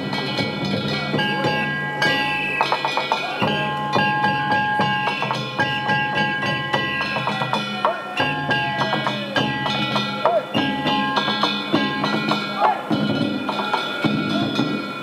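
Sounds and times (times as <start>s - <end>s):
drum beats: 0.0s - 15.0s
ringing bell-like metal tones: 0.0s - 15.0s.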